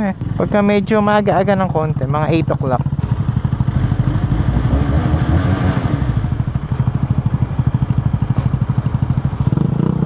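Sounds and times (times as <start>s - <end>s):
motorcycle engine idling: 0.0s - 4.7s, 6.1s - 10.0s.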